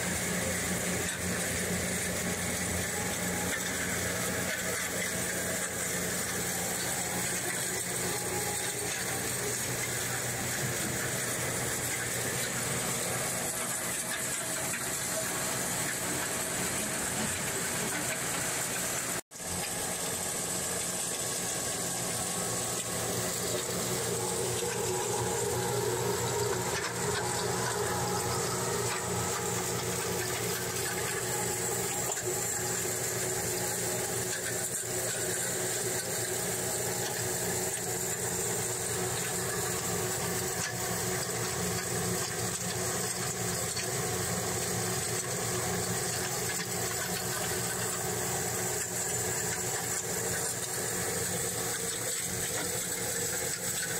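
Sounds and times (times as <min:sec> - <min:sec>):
machinery motors humming: 0:00.0 - 0:53.9
water and slurry running: 0:00.0 - 0:53.9.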